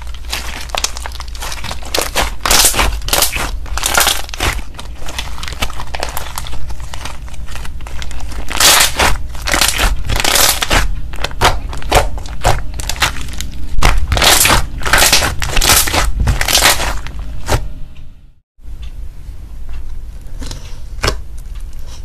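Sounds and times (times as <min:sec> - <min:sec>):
slime squelching and popping: 0:00.0 - 0:17.6.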